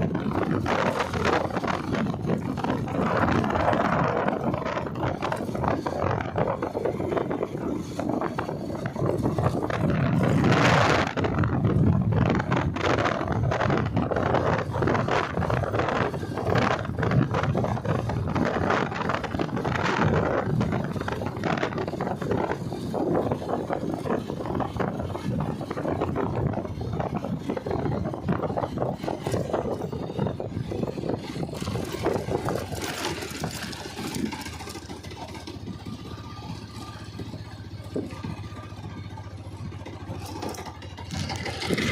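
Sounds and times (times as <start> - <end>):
machinery rattling and scraping: 0.0 - 41.9.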